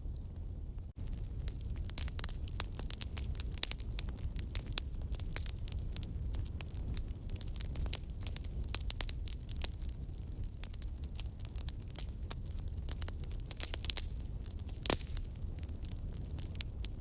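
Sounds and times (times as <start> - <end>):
campfire crackling and popping: 0.0 - 17.0
low rumble of flame: 0.0 - 17.0.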